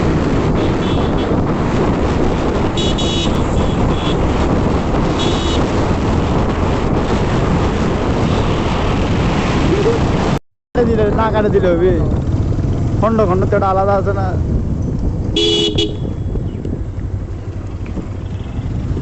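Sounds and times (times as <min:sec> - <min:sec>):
motorcycle running: 0:00.0 - 0:10.4, 0:11.0 - 0:19.0
wind rushing over microphone: 0:00.0 - 0:19.0.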